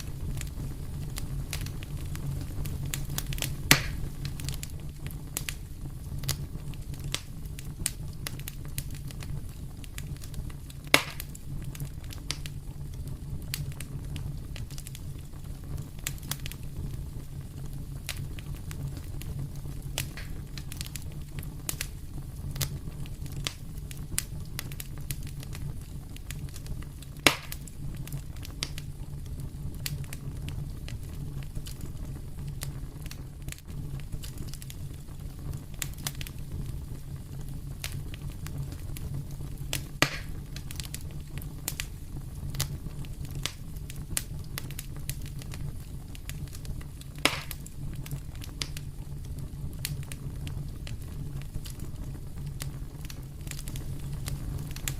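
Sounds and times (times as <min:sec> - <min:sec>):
fire popping loudly: 0:00.0 - 0:54.9
wood fire crackling: 0:00.0 - 0:54.9.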